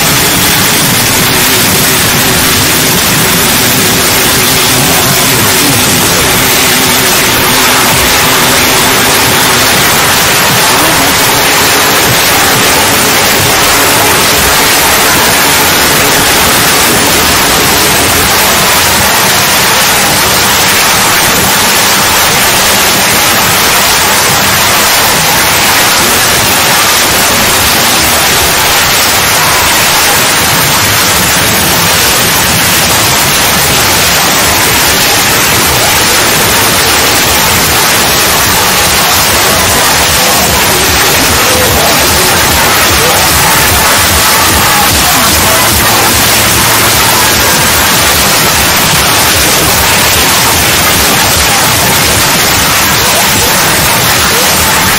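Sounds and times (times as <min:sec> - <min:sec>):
static hiss: 0:00.0 - 0:54.9.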